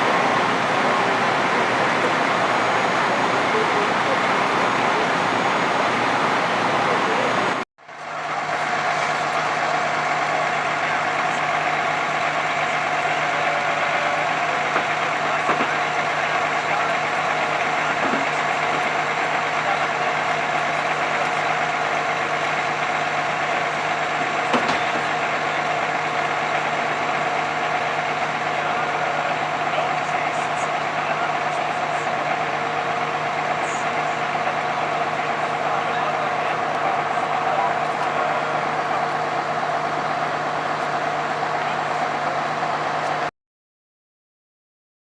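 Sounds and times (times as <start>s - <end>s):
truck engine idling: 0.0s - 43.3s.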